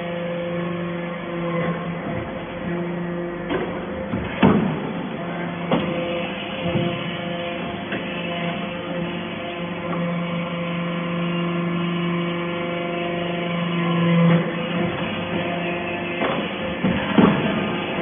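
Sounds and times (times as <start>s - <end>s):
hydraulic pump humming: 0.0s - 18.0s.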